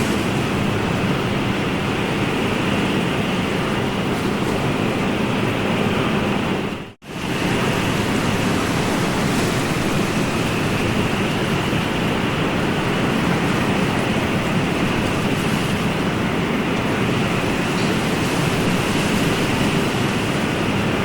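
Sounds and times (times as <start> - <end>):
ocean surf rushing: 0.0 - 21.0.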